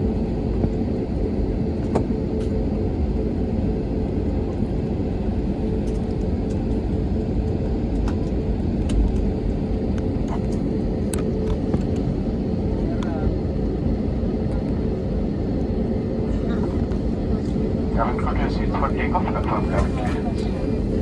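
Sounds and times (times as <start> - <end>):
airliner cabin rumble: 0.0 - 21.0
steady hum: 0.9 - 21.0.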